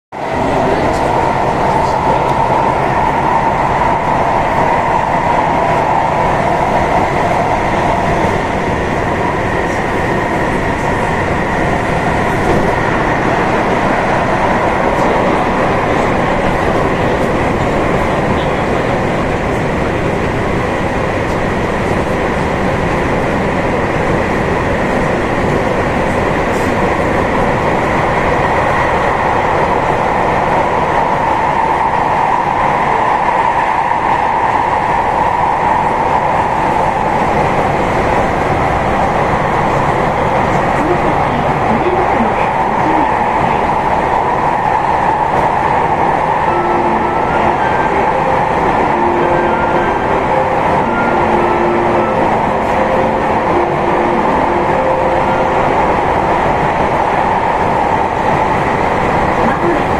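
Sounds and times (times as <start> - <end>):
electric train running: 0.2 - 59.9.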